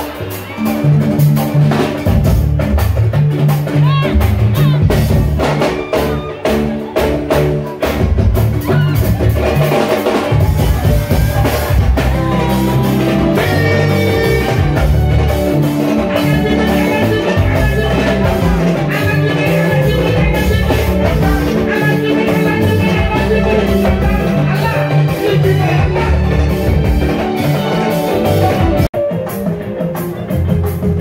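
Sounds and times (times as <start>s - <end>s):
bass guitar: 0.0s - 31.0s
electric guitar: 0.0s - 31.0s.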